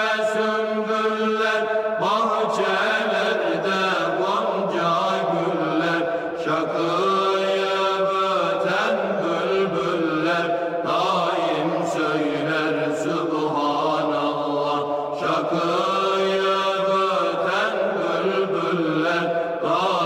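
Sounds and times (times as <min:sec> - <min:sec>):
unaccompanied vocal chanting: 0:00.0 - 0:20.0.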